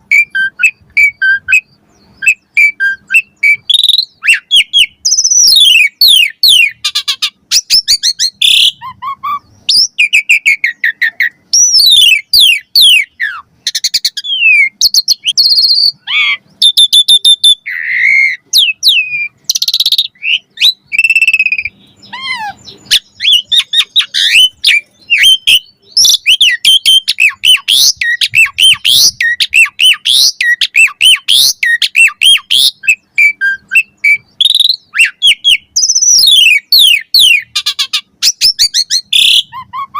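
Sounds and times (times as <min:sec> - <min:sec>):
starling singing whistles and chirps: 0:00.0 - 0:39.9.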